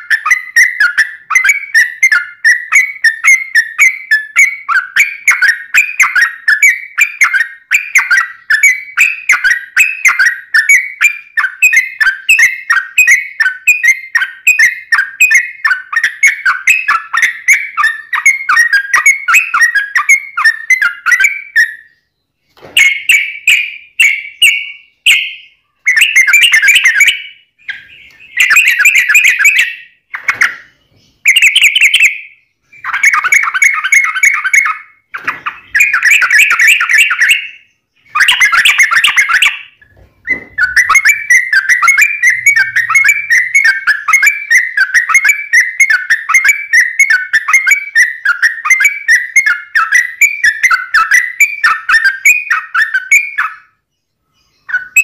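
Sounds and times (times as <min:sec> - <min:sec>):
bulbul singing: 0:00.0 - 0:55.0.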